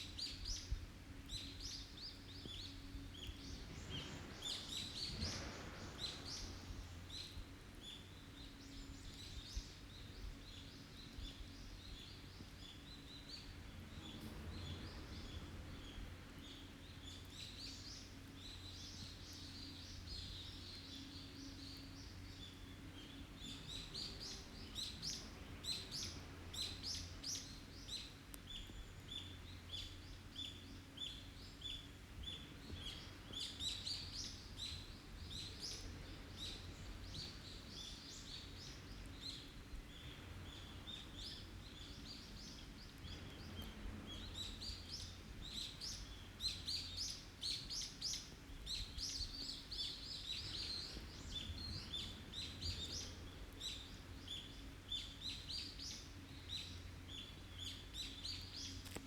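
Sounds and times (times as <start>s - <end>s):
forest birds calling and singing: 0.0s - 59.0s.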